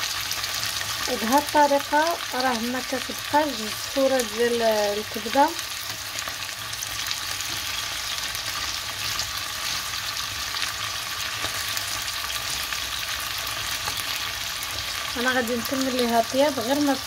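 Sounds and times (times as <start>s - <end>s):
liver sizzling in a pan: 0.0s - 17.0s.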